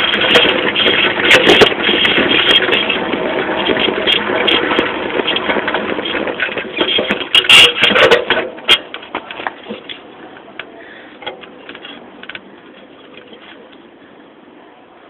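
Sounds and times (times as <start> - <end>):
bicycle rattling over rough ground: 0.0 - 14.3.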